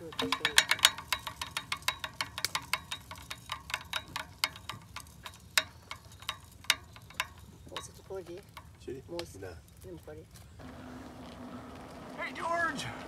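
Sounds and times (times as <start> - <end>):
bicycle hub ticking: 0.0 - 13.0.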